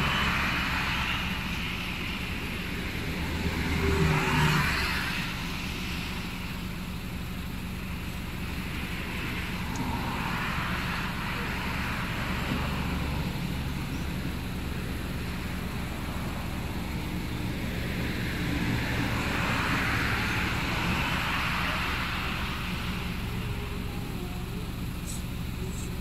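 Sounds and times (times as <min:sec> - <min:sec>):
steady low rumble: 0:00.0 - 0:26.0
vehicles passing on road: 0:00.0 - 0:26.0.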